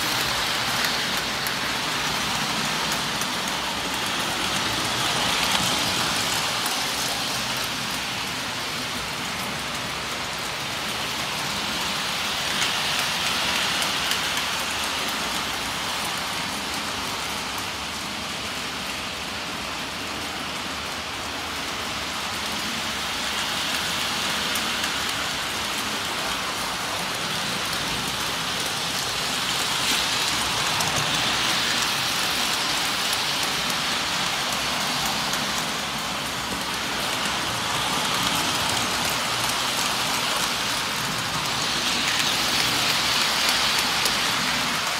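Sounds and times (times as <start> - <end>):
toy trains rumbling on metal track: 0.0 - 44.9.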